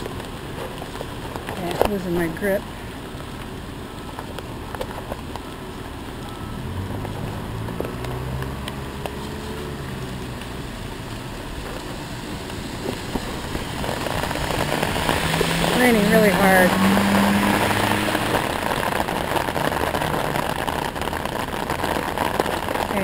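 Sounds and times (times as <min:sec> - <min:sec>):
wheelchair rolling over pavement: 0:00.0 - 0:02.7, 0:04.1 - 0:23.0
heavy rain on pavement: 0:00.0 - 0:23.0.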